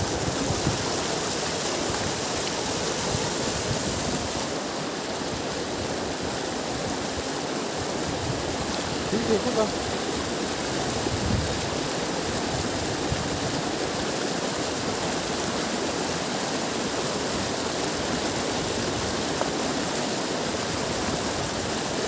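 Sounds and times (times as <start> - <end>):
river water rushing and splashing: 0.0 - 22.0.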